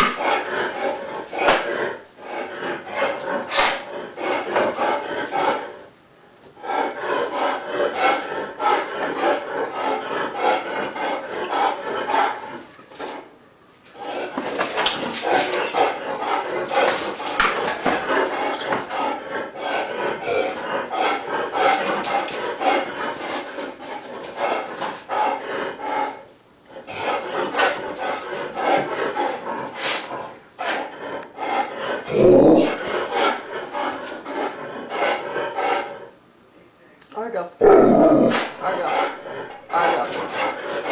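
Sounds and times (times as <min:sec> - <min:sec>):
dog growling: 0:00.0 - 0:05.9, 0:06.6 - 0:13.3, 0:13.9 - 0:36.2, 0:37.6 - 0:40.9.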